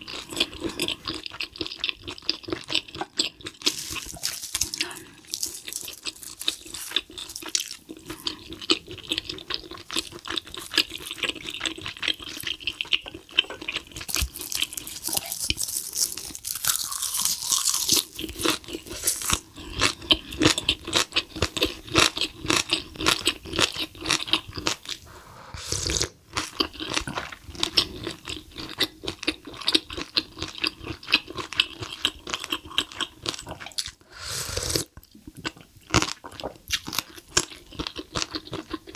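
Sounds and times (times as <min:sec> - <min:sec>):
chewing and crunching food: 0:00.0 - 0:25.2, 0:25.8 - 0:38.9.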